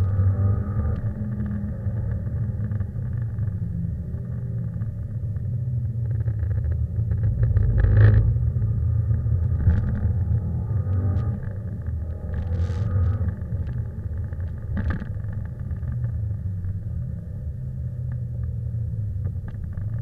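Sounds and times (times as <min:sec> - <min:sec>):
car engine deep rumble: 0:00.0 - 0:20.0.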